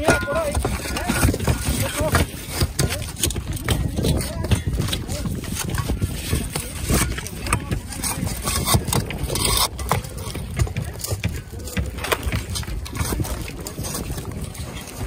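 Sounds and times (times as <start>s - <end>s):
shingles and nails cracking loose: 0.0s - 15.0s
shovel scraping roof shingles: 0.0s - 15.0s.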